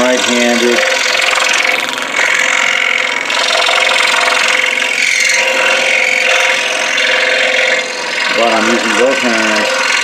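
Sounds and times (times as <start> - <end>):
scroll saw cutting wood: 0.0 - 10.0.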